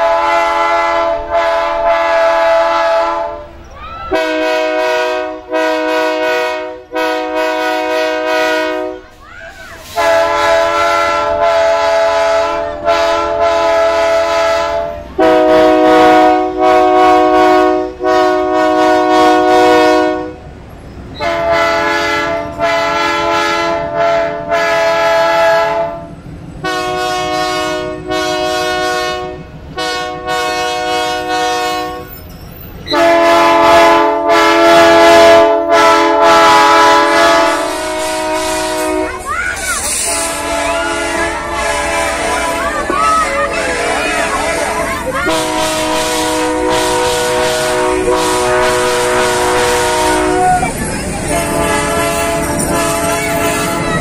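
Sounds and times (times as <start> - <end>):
locomotive air horn blasts: 0.0 - 9.1, 9.8 - 20.4, 21.2 - 32.2, 32.9 - 54.0
passing train rumble: 0.0 - 54.0.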